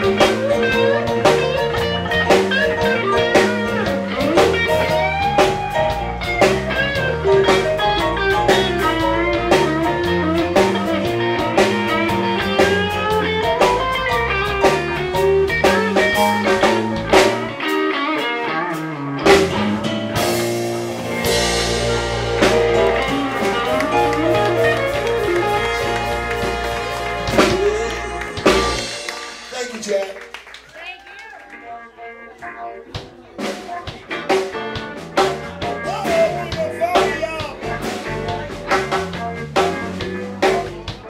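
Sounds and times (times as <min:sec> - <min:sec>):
electric guitar lead: 0:00.0 - 0:30.3, 0:30.9 - 0:41.0
blues band playing: 0:00.0 - 0:41.0.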